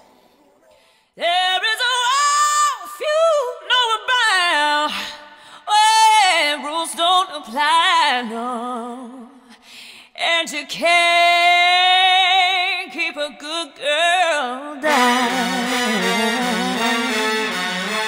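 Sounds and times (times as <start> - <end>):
solo singing voice with vibrato: 1.2 - 9.5, 10.1 - 17.5.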